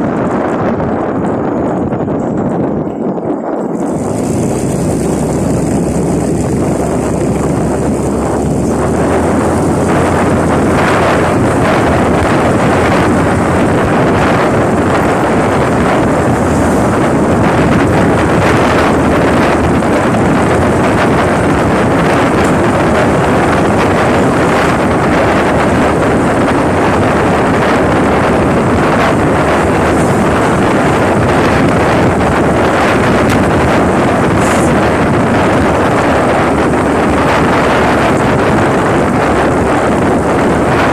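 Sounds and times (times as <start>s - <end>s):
motorcycle engine: 0.0s - 40.9s
road noise: 0.0s - 40.9s
wind buffeting microphone: 0.0s - 40.9s.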